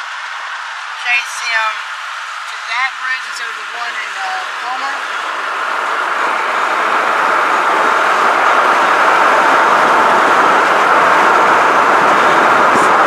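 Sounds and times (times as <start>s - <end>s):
air rush and tyre noise: 0.0s - 13.0s.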